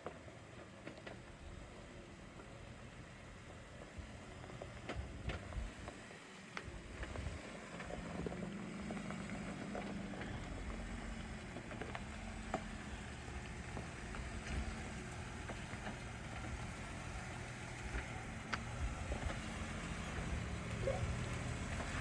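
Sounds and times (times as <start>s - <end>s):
jeep engine running: 0.0s - 22.0s
vehicle clicks and knocks: 3.4s - 22.0s.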